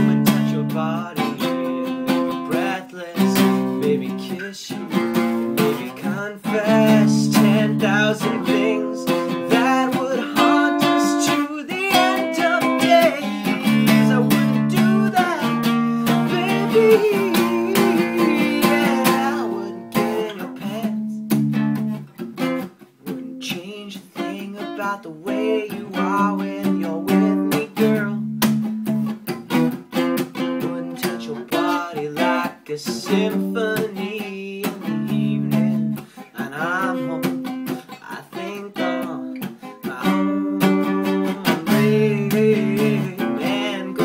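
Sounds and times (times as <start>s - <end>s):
man singing: 0.0s - 21.4s, 23.0s - 28.6s, 30.2s - 44.0s
acoustic guitar strumming: 0.0s - 44.0s.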